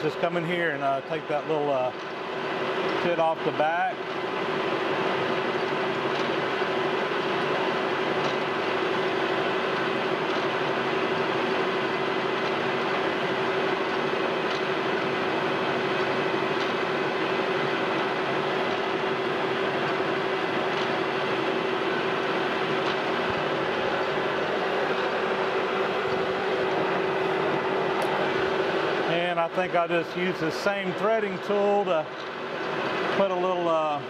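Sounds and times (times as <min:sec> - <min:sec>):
metal lathe humming: 0:00.0 - 0:34.0.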